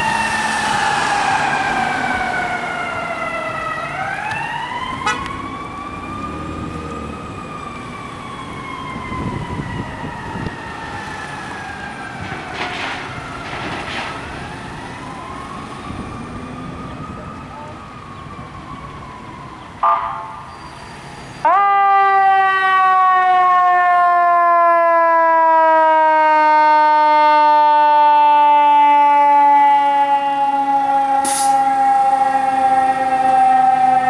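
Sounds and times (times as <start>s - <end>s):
emergency vehicle siren wailing: 0.0s - 34.0s.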